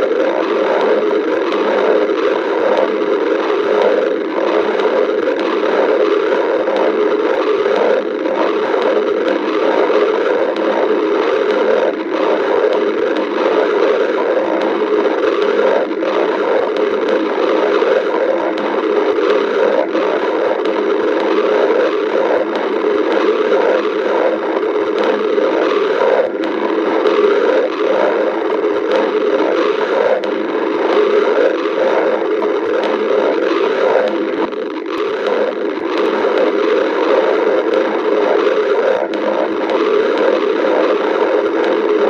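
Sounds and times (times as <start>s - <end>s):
stomach growling: 0.0s - 42.0s.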